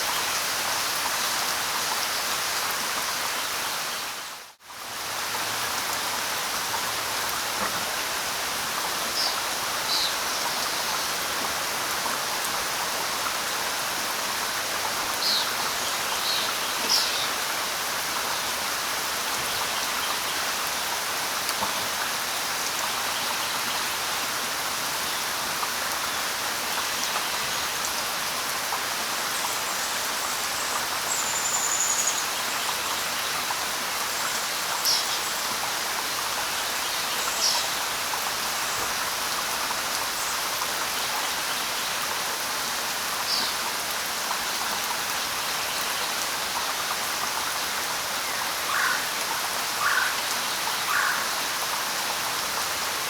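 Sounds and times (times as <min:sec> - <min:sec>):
light rain on leaves: 0:00.0 - 0:53.0.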